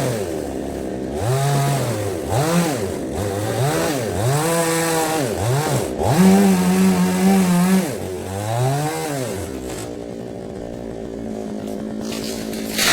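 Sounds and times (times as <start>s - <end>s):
chainsaw engine revving and idling: 0.0s - 12.9s.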